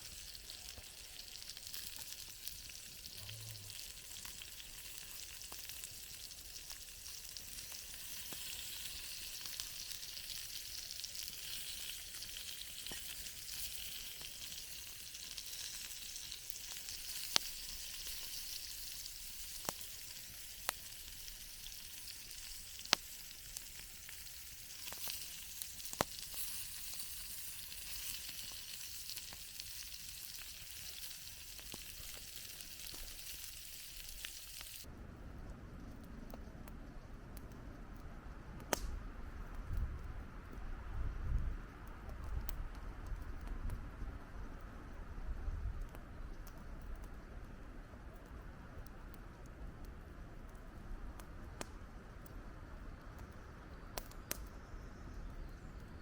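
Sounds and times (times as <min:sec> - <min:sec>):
campfire crackling: 0:00.0 - 0:56.0
fire popping: 0:00.0 - 0:56.0.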